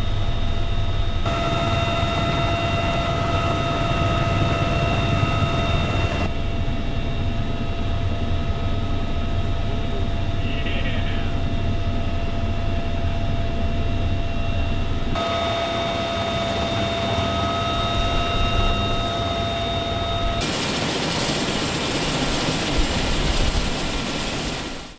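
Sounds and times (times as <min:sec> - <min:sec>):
helicopter turbine engines whining: 0:00.0 - 0:24.9
low rotor rumble: 0:00.0 - 0:24.9.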